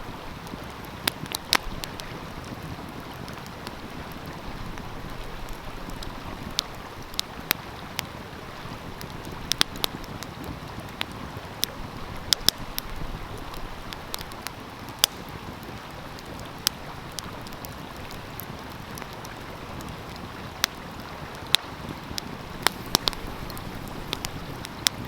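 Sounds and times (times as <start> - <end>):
stream flowing: 0.0 - 25.0
wood fire crackling and popping: 0.0 - 25.0.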